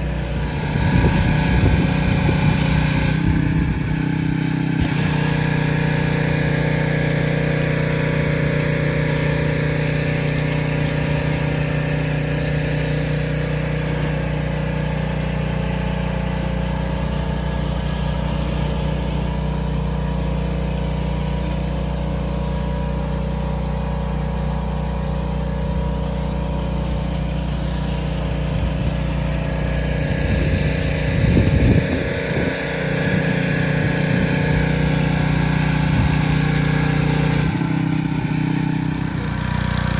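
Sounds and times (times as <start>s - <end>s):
pressure washer engine running: 0.0s - 39.9s
water spraying onto concrete: 0.0s - 39.9s.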